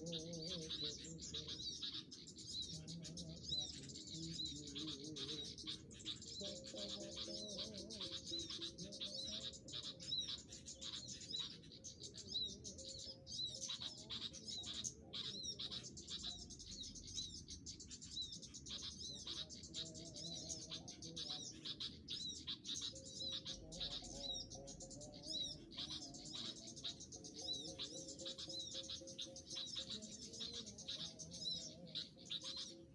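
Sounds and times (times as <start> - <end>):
faint background music: 0.0 - 32.9
small birds chirping: 0.0 - 32.9.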